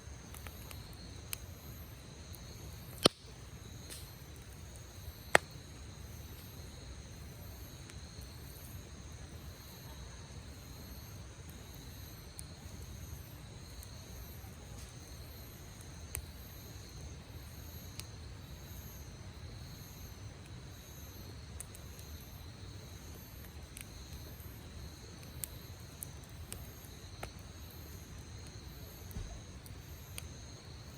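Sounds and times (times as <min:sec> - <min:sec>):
campfire crackling and popping: 0:00.0 - 0:30.9
insects chirping: 0:00.0 - 0:30.9.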